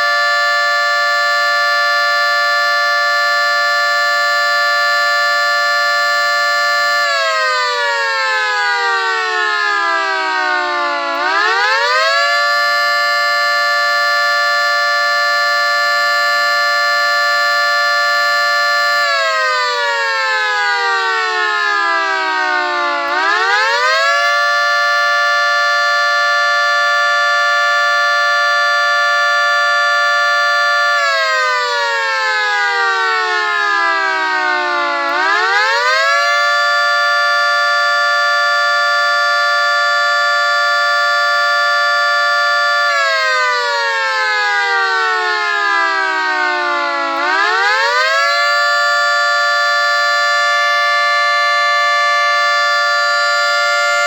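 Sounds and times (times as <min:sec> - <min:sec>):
siren winding multi-tone chord: 0:00.0 - 0:54.0.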